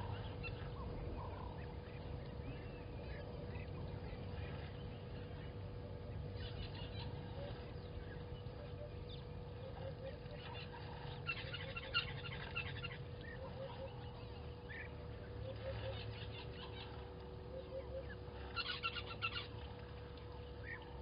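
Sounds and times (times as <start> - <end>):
low three-note bird call: 0.0 - 19.6
low background rumble: 0.0 - 21.0.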